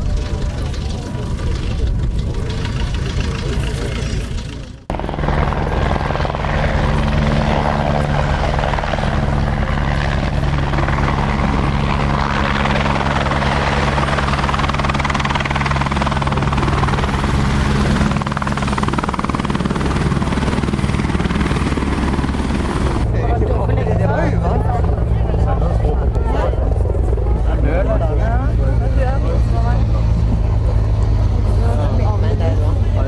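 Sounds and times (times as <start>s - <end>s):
helicopter engine hum: 0.0s - 33.0s
rotor blades chopping: 0.0s - 33.0s.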